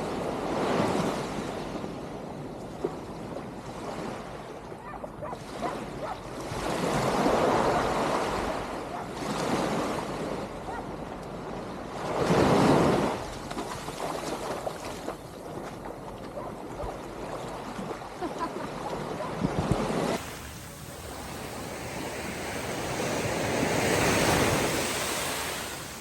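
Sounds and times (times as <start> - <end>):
ocean waves breaking on beach: 0.0 - 26.0.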